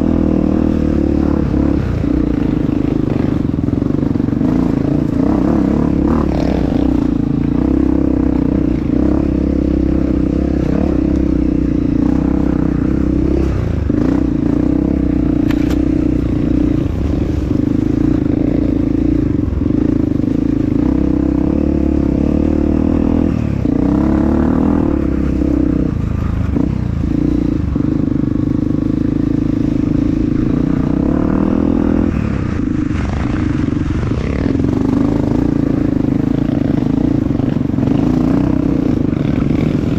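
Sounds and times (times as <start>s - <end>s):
motorcycle clatter over rough ground: 0.0s - 39.9s
motorcycle engine revving: 0.0s - 39.9s.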